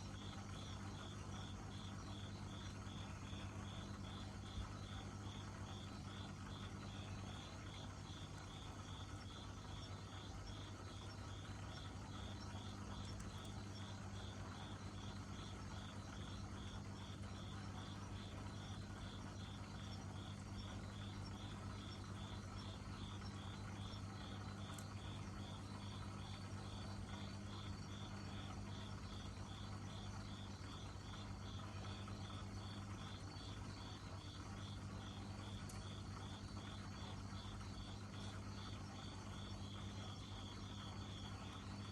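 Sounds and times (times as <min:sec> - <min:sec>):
cricket chirping: 0:00.0 - 0:41.9
faint low hum: 0:00.0 - 0:41.9.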